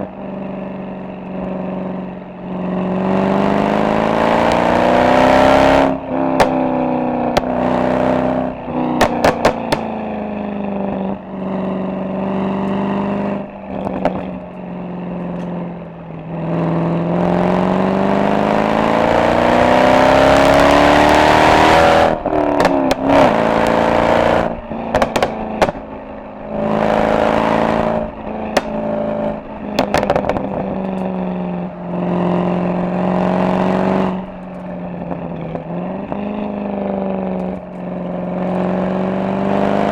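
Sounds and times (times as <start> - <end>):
exhaust crackles: 0.0 - 38.7
car exhaust revving: 0.0 - 39.9.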